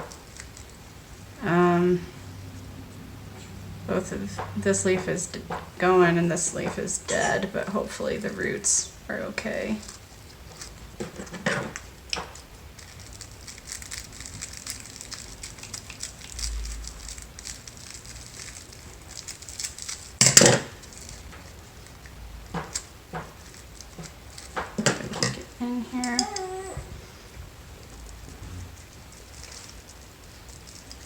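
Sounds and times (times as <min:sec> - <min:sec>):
rustling and crackling wrapping: 0:00.0 - 0:02.8, 0:03.4 - 0:31.0.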